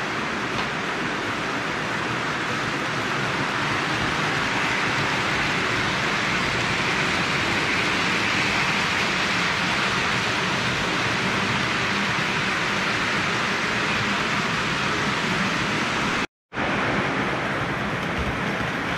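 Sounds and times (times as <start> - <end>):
toy trains rumbling on track: 0.0 - 18.9.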